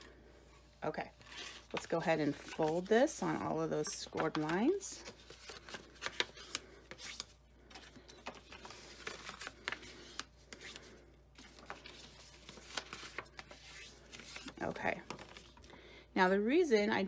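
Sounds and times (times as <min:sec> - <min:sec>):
paper rustling and rubbing: 0:01.1 - 0:15.6.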